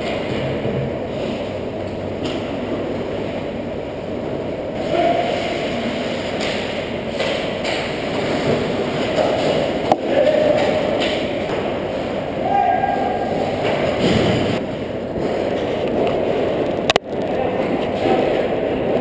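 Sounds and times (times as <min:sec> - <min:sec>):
low rink rumble: 0:00.0 - 0:19.0.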